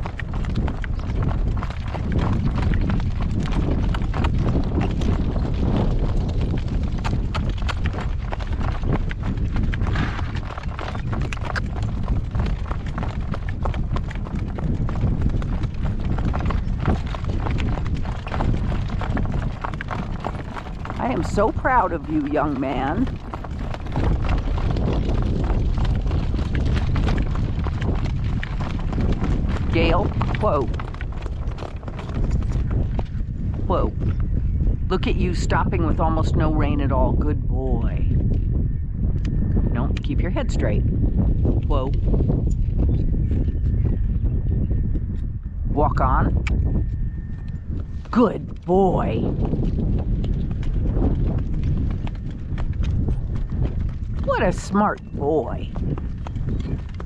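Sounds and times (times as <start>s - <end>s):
horse hooves clip-clopping on road: 0.0s - 57.0s
strong wind on microphone: 0.0s - 57.0s.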